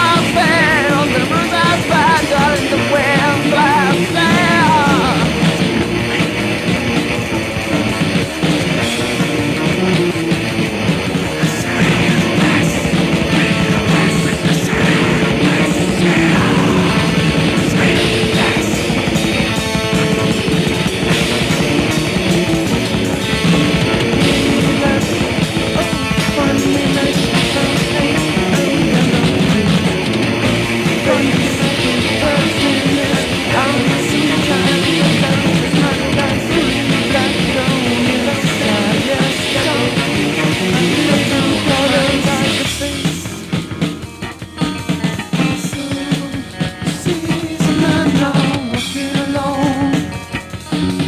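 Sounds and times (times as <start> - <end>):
rock band instrumental: 0.0 - 51.0.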